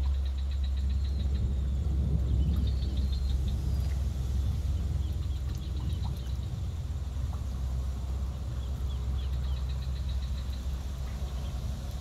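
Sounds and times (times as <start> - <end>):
steady low rumble: 0.0 - 12.0
wild birds chirping: 0.0 - 12.0.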